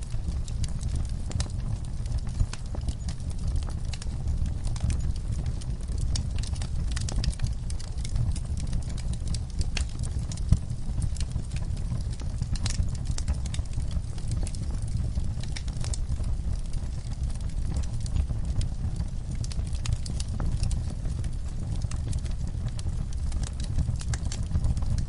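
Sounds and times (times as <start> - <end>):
low steady rumble: 0.0 - 25.0
wood fire crackling and popping: 0.0 - 25.0.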